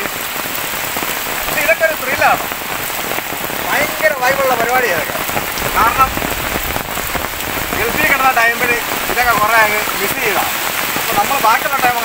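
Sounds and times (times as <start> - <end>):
heavy rain pouring onto water: 0.0 - 12.0.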